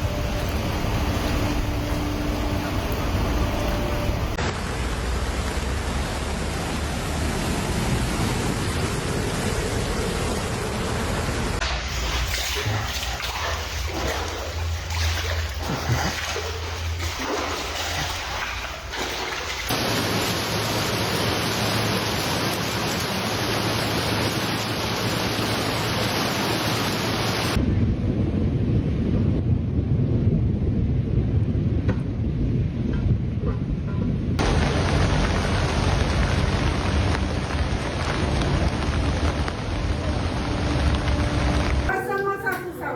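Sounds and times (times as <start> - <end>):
rushing floodwater: 0.0 - 27.6, 34.4 - 42.9
heavy rain: 0.0 - 27.7, 34.4 - 42.4.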